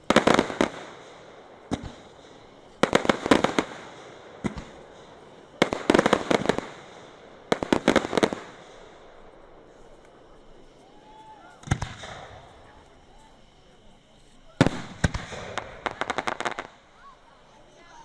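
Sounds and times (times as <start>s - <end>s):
fireworks banging: 0.0s - 17.6s.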